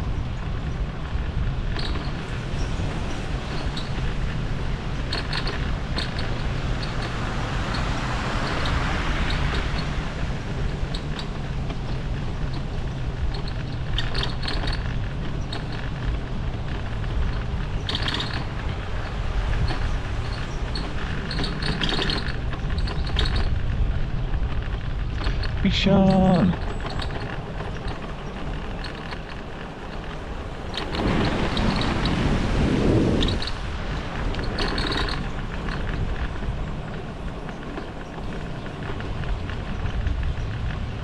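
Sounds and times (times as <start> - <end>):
bicycle rolling with rattles: 0.0 - 41.0
wind buffeting microphone: 0.0 - 41.0.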